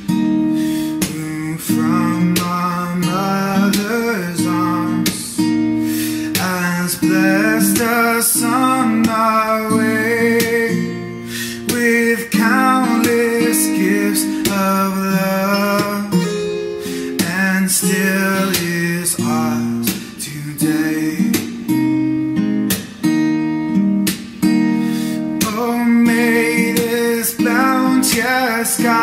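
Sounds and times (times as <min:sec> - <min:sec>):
strummed acoustic guitar hymn: 0:00.0 - 0:29.0.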